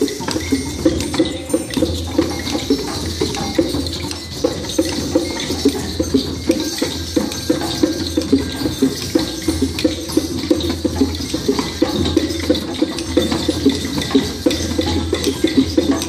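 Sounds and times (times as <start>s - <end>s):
light taps on drums and sticks: 0.0s - 16.0s.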